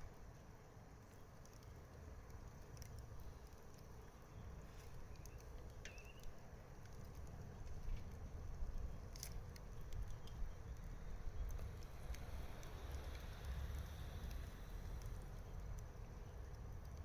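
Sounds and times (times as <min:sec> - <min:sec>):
bonfire crackling and popping: 0:00.0 - 0:17.0
fire low rumble: 0:00.0 - 0:17.0.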